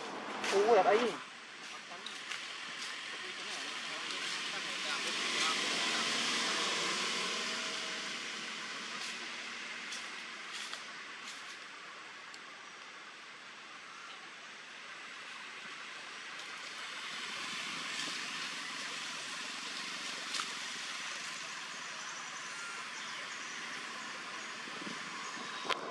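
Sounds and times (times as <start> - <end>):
outdoor hiss-like background noise: 0.0 - 25.9.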